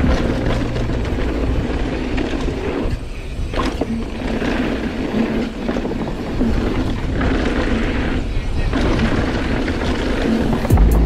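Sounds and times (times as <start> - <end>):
bike rattling: 0.0 - 11.0
tyre and wind noise: 0.0 - 11.0.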